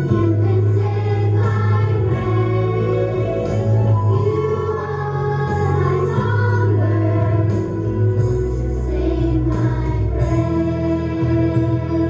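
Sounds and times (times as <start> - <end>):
children's chorus singing: 0.0 - 7.9, 8.7 - 12.0
instrumental accompaniment: 0.0 - 12.0.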